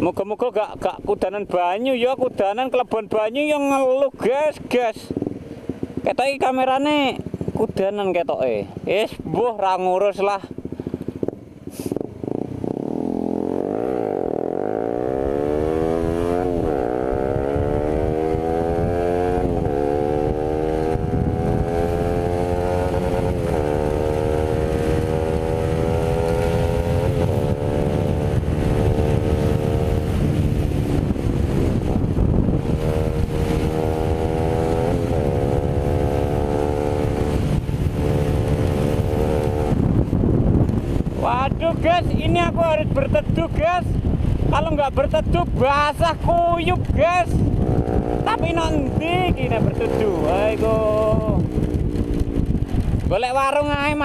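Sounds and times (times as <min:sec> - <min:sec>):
motorcycle engine accelerating: 0:06.8 - 0:43.4, 0:46.4 - 0:54.0.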